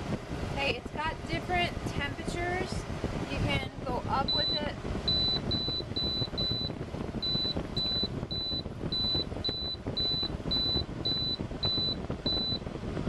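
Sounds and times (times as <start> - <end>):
air conditioner fan running: 0.0 - 13.0.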